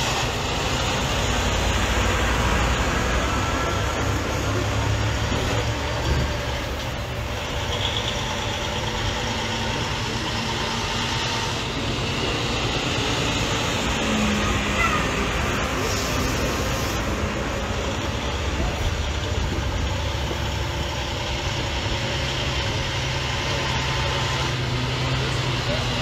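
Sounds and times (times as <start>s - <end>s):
diesel truck engines rumbling: 0.0s - 26.0s.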